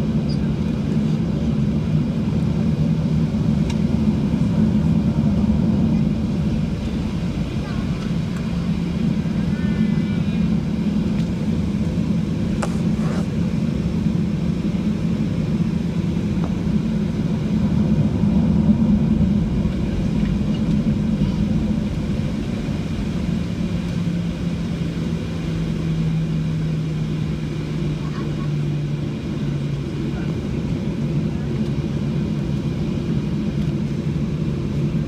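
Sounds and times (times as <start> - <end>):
jet engine low hum: 0.0 - 35.0.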